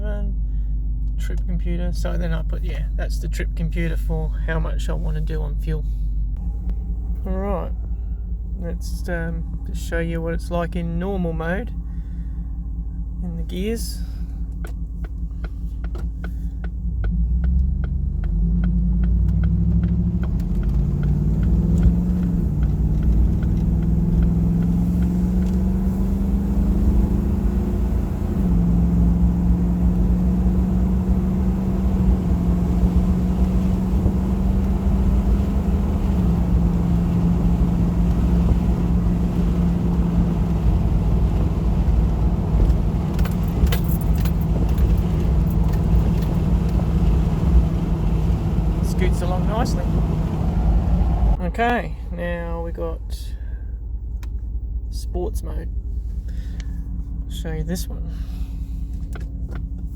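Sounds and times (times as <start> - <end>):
car engine accelerating: 0.6 - 59.9.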